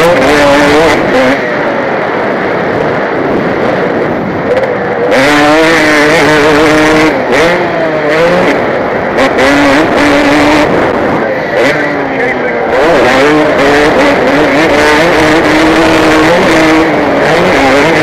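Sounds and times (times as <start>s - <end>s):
motocross bike engine revving: 0.0s - 18.0s.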